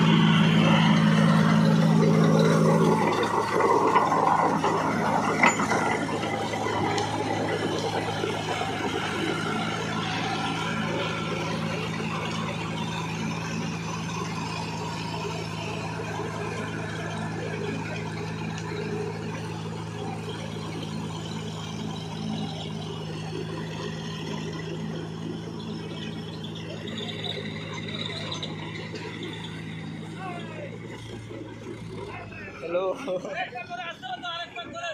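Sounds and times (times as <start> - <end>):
tractor engines running: 0.0 - 34.9.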